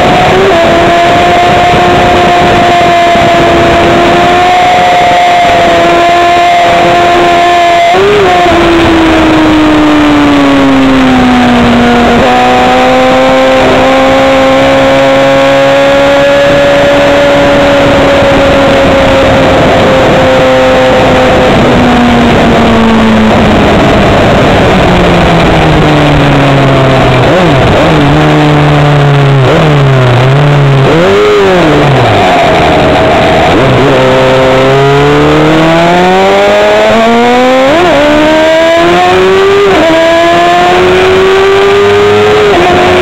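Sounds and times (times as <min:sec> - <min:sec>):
motorcycle engine at high revs: 0:00.0 - 0:43.0
wind rush: 0:00.0 - 0:43.0.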